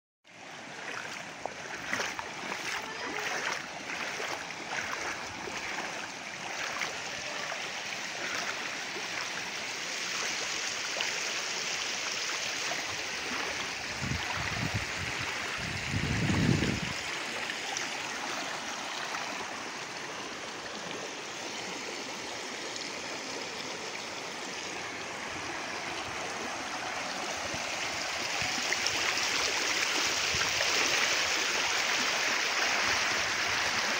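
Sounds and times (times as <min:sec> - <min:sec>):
floodwater rushing: 0:00.3 - 0:33.9.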